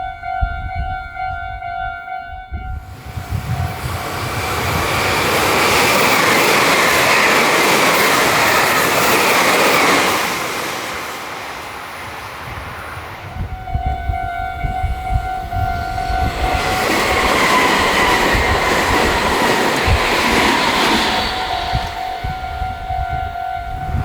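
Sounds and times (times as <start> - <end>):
train passing close by: 0.0 - 24.0.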